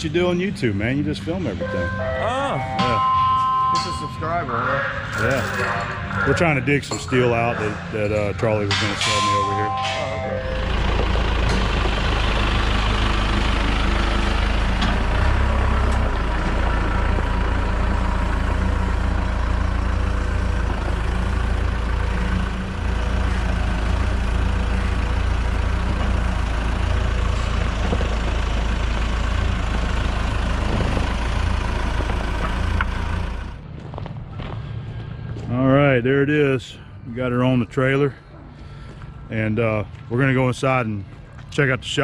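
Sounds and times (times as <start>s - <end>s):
telehandler engine running: 0.0s - 42.0s.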